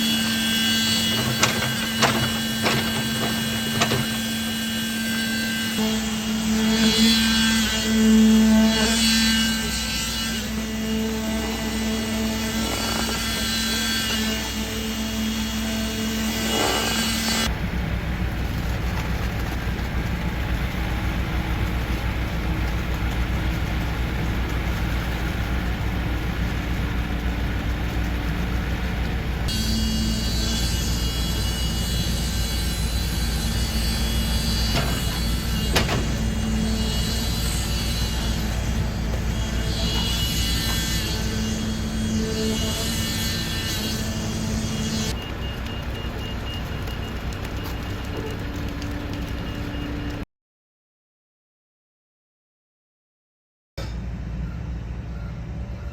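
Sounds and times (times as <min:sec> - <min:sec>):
heavy engine droning: 0:00.0 - 0:50.2
machinery humming: 0:00.0 - 0:50.2.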